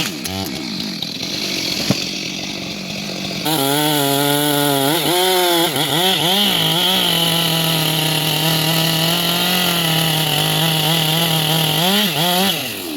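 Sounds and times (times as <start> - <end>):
chainsaw cutting a tree: 0.0 - 12.9.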